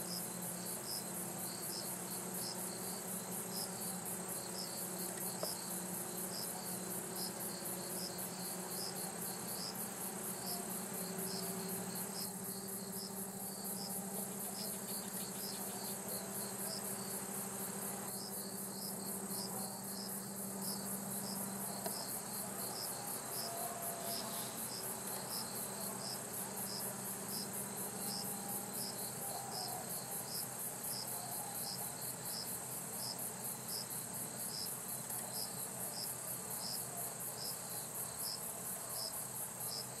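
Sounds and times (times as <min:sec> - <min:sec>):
insect chirping: 0:00.0 - 0:40.0
insects trilling: 0:00.0 - 0:40.0.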